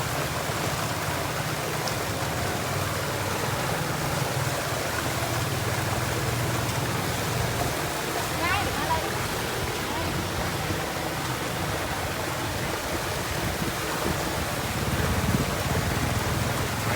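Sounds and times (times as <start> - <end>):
pump motor hum: 0.0 - 16.9
water gushing: 0.0 - 16.9.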